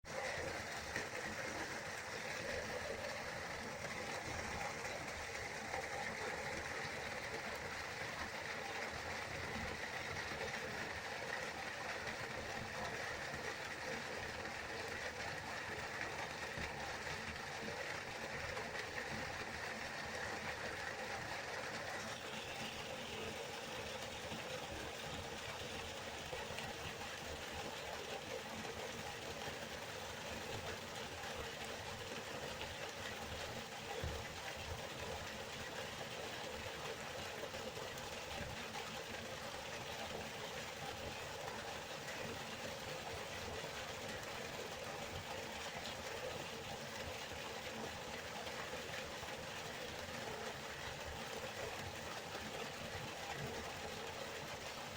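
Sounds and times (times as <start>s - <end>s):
river flowing: 0.1s - 54.9s.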